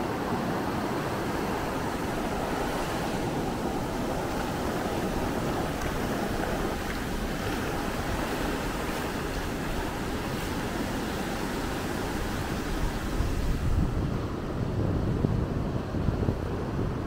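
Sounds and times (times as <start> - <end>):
surf breaking on beach: 0.0 - 17.0
wind on microphone: 0.0 - 17.0.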